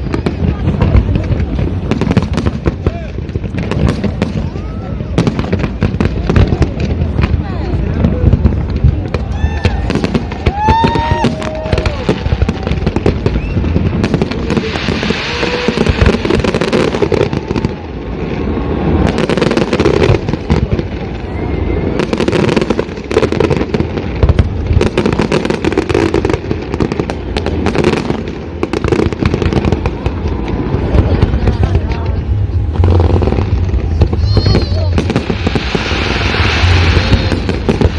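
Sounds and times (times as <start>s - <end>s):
fireworks bangs and crackling pops: 0.0s - 37.9s
rumble of explosions: 0.0s - 37.9s.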